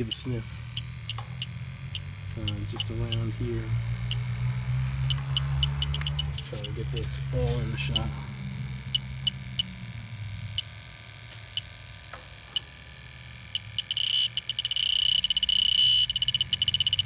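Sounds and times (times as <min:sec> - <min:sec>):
rapid electronic beeps: 0:00.0 - 0:04.4, 0:05.0 - 0:11.9, 0:13.4 - 0:17.0
leak detector ticking: 0:00.0 - 0:17.0
steady high tone: 0:00.0 - 0:17.0.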